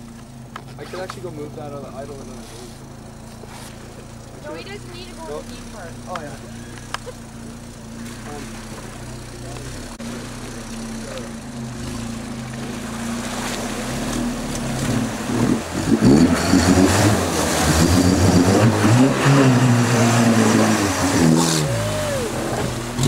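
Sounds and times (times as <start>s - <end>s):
truck engine revving: 0.6s - 23.0s.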